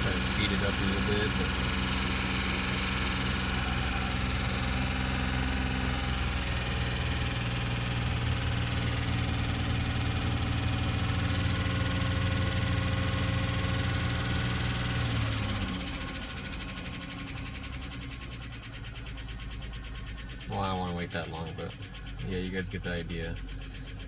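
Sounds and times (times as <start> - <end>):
car engine running with knocking: 0.0 - 24.0.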